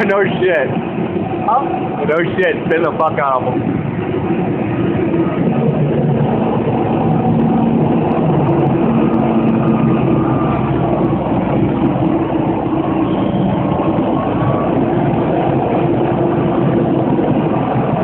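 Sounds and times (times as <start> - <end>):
heavy engine humming: 0.0 - 18.0.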